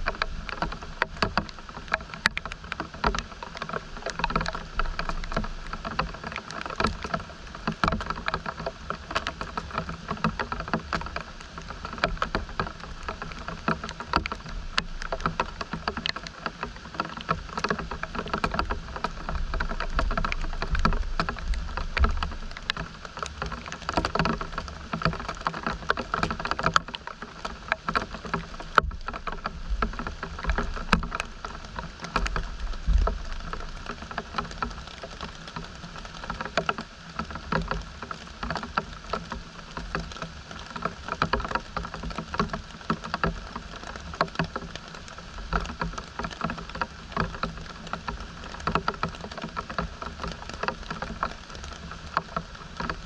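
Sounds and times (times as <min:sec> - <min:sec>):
rain pattering and dripping: 0:00.0 - 0:53.0.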